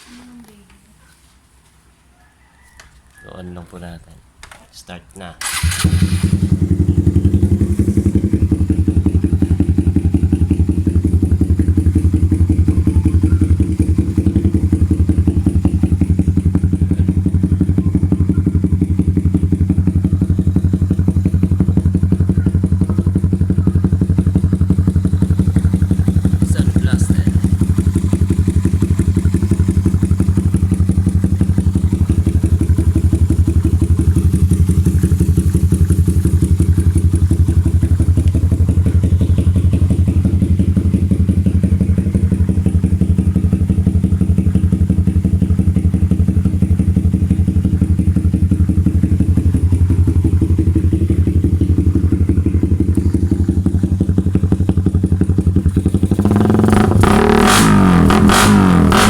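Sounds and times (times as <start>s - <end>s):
motorcycle engine idling: 5.4s - 59.0s.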